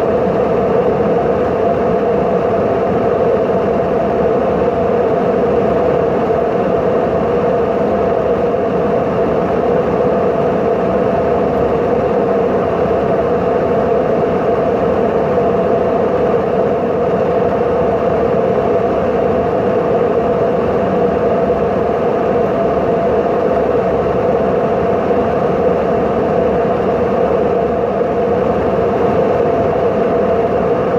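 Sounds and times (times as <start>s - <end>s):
airplane engines roaring: 0.0s - 30.9s.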